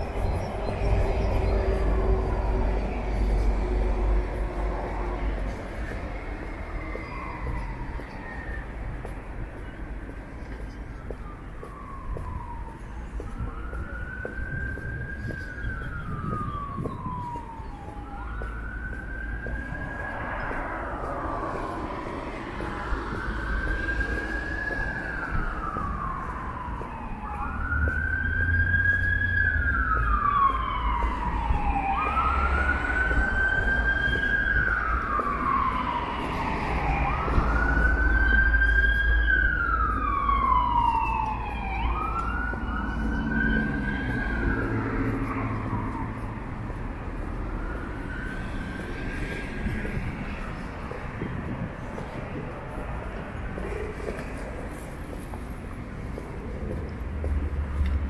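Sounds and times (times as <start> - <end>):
emergency siren wailing: 0.0 - 58.0.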